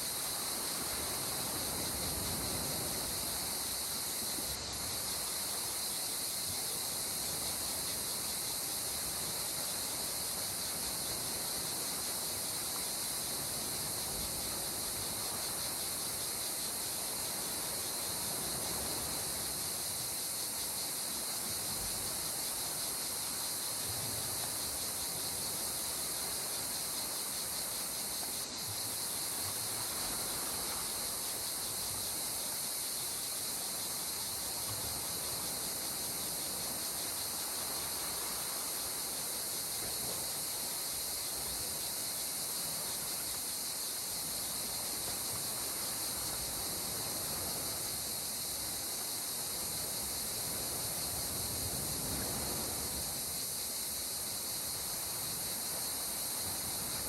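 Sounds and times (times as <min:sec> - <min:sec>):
gentle sea water: 0:00.0 - 0:57.0
insect chorus: 0:00.0 - 0:57.0.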